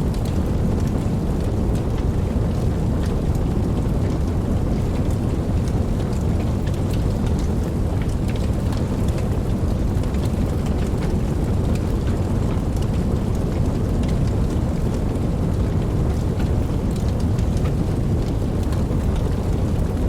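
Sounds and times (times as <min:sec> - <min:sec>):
raindrops ticking: 0:00.0 - 0:20.0
steady rain: 0:00.0 - 0:20.0.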